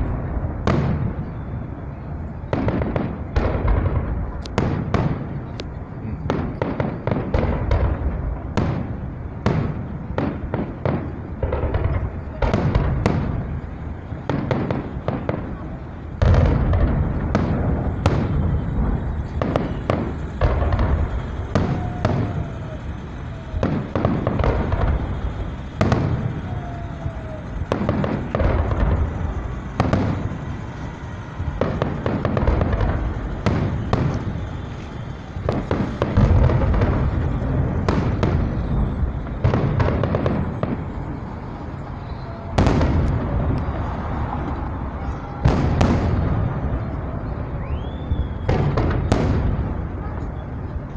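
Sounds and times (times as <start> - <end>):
fireworks bangs: 0.0 - 50.9.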